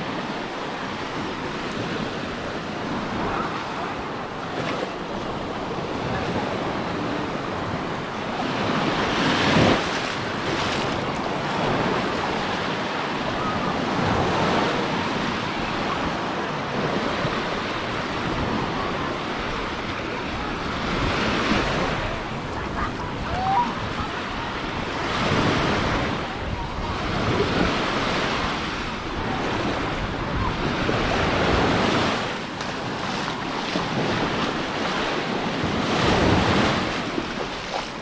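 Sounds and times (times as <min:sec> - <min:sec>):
waves breaking in shallows: 0:00.0 - 0:38.0
wind buffeting microphone: 0:00.0 - 0:38.0.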